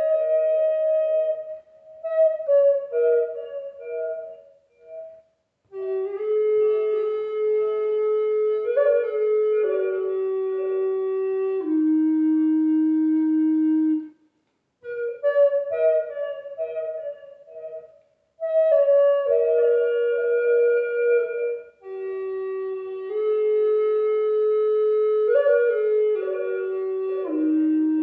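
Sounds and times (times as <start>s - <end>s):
flute playing slow melody: 0.0s - 14.2s, 14.8s - 28.0s.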